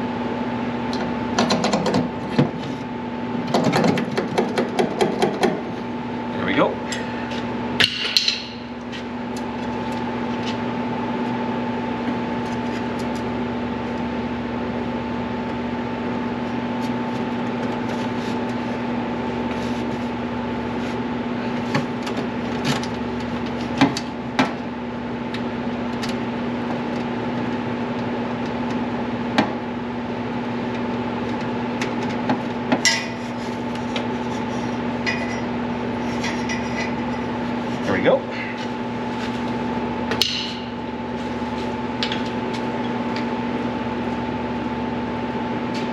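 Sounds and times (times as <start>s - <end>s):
mechanical hum: 0.0s - 45.9s.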